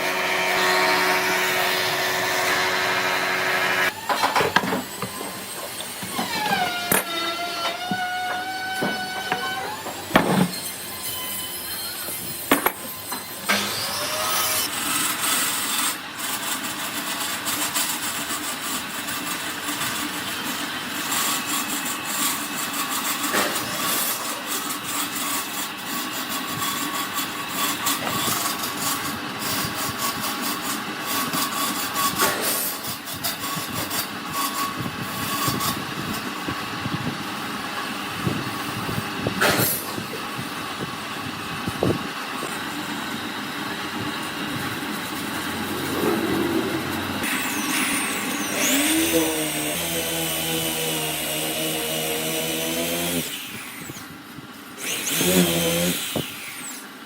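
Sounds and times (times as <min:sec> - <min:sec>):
power tool on wood: 0:00.0 - 0:40.5, 0:41.4 - 0:57.0.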